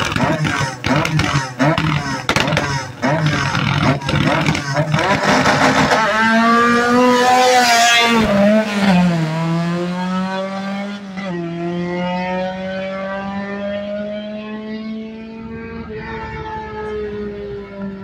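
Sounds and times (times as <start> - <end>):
drag racing cars accelerating: 0.0 - 18.0.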